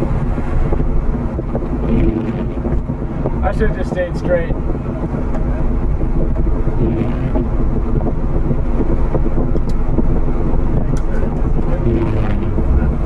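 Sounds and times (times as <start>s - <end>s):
car engine droning under load: 0.0s - 13.0s.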